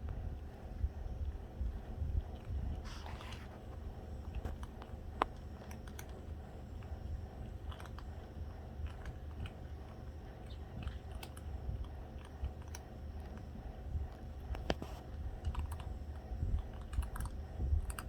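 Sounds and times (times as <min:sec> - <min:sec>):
steady low rumble: 0:00.0 - 0:18.0
cats crunching dry food: 0:00.1 - 0:18.0.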